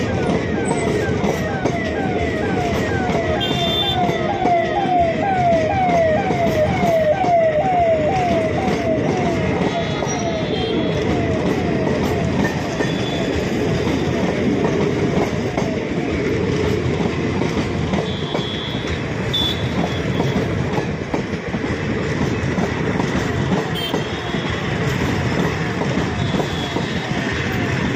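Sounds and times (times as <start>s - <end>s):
train wheels rumbling on track: 0.0s - 27.9s
wheels clacking over rail joints: 0.0s - 27.9s.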